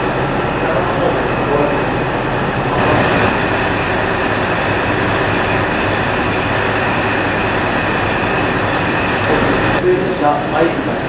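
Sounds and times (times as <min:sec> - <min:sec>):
electric train idling hum and hiss: 0:00.0 - 0:11.0.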